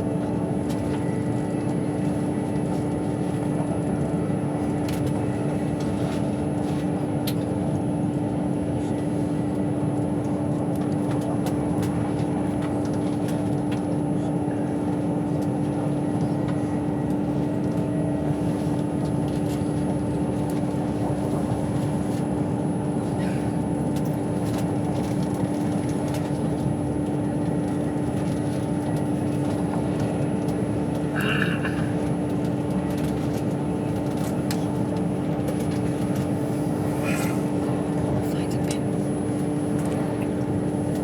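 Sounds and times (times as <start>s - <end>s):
train rumble inside carriage: 0.0s - 41.0s.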